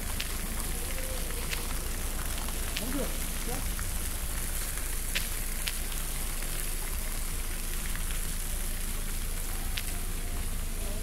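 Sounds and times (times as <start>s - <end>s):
street hiss: 0.0s - 11.0s.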